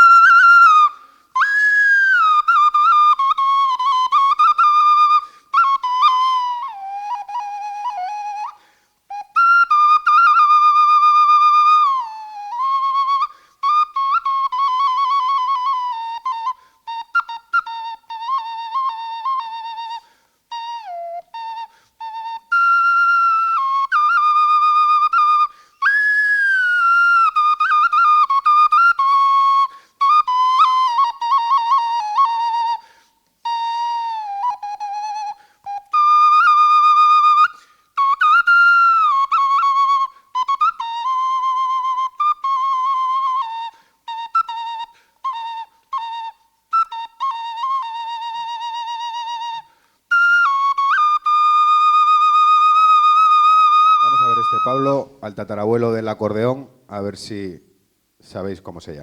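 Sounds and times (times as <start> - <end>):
ocarina melody: 0.0 - 56.6.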